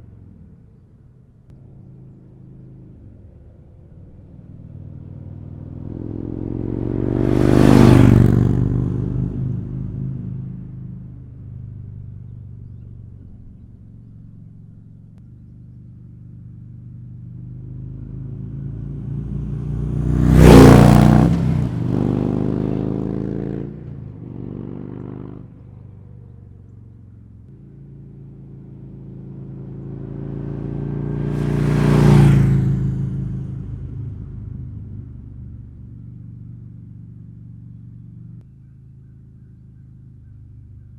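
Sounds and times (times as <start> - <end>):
motorcycle passing by: 0.0 - 40.9.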